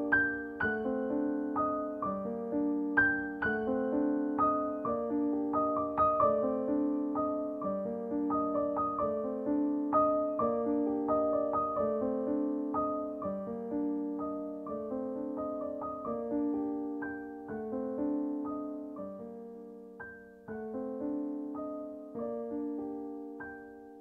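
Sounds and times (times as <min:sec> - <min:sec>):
gentle piano melody: 0:00.0 - 0:24.0.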